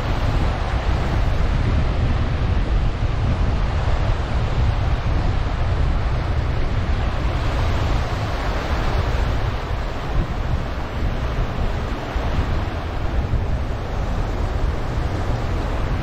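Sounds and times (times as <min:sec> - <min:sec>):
small waves washing on sand: 0:00.0 - 0:16.0
wind rumbling on microphone: 0:00.0 - 0:16.0.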